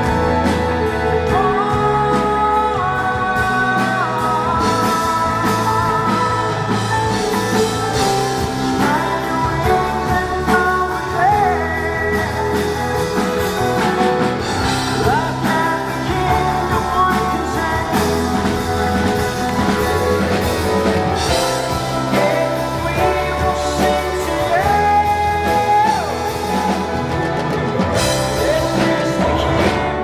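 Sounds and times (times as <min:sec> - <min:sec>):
person singing: 0:00.0 - 0:30.0
rock band playing live: 0:00.0 - 0:30.0.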